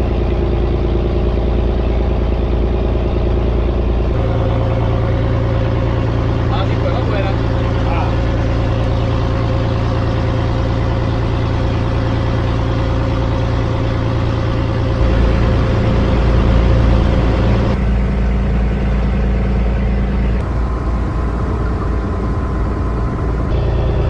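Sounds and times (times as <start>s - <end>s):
boat engine low hum: 0.0s - 24.0s.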